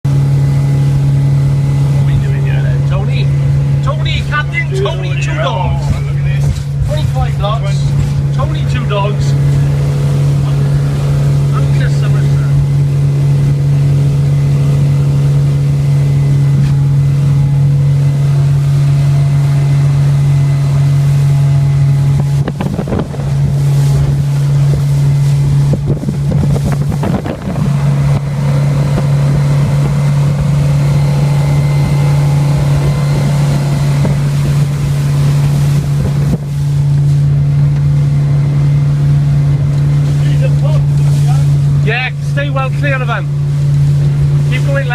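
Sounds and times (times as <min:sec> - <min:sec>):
boat engine low drone: 0:00.0 - 0:44.9.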